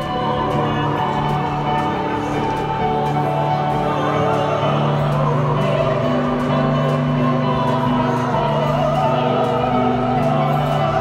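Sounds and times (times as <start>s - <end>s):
held accompaniment notes: 0.0s - 11.0s
person singing: 0.0s - 11.0s.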